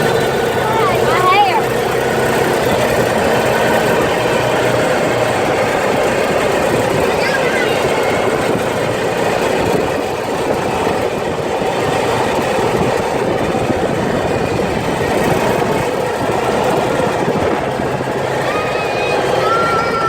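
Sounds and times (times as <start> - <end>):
off-road vehicle engine running: 0.0 - 20.0
wind on microphone: 0.0 - 20.0.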